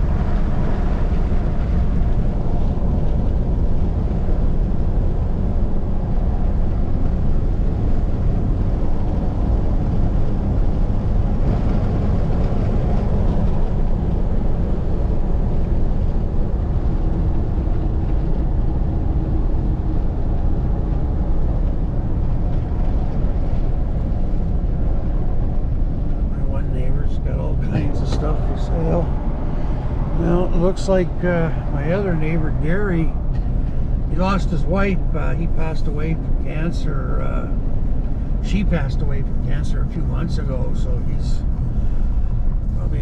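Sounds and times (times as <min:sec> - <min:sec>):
truck engine and road rumble: 0:00.0 - 0:43.0
wind noise: 0:00.0 - 0:43.0.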